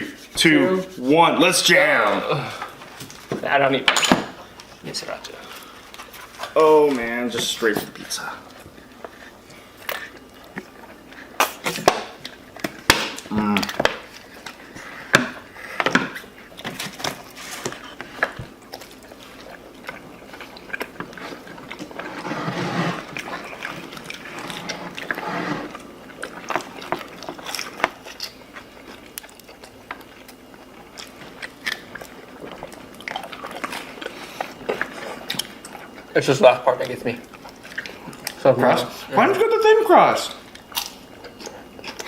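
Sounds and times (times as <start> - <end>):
people biting and chewing: 4.4 - 39.2, 40.4 - 42.0.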